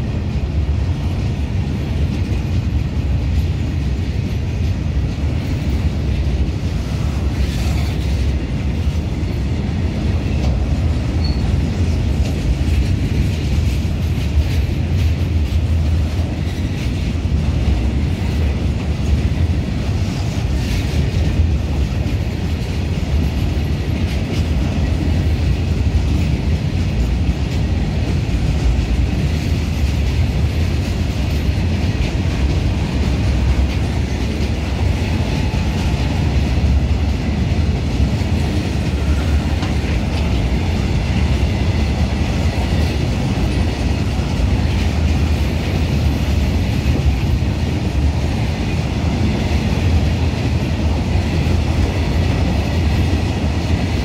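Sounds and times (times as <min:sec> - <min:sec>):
clacks over rail joints: 0:00.0 - 0:54.0
steel wheels rumbling on rail: 0:00.0 - 0:54.0.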